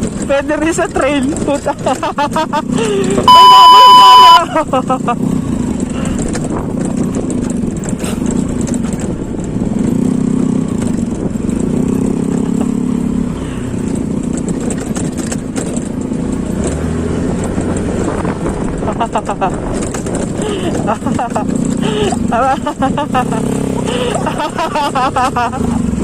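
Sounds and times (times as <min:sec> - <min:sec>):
scooter engine under throttle: 0:00.0 - 0:26.0.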